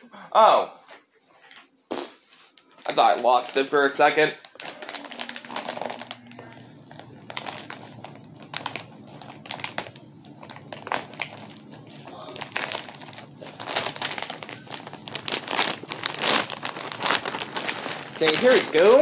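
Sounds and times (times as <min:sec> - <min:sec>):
packaging crinkling: 0:02.9 - 0:19.0.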